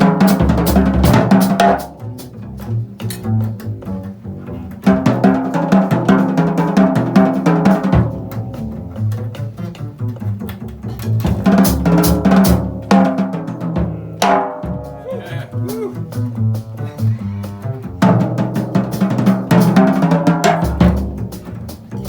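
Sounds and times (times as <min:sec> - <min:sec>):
jazz band playing: 0:00.0 - 0:22.0
snare and bass drum strokes: 0:00.0 - 0:22.0.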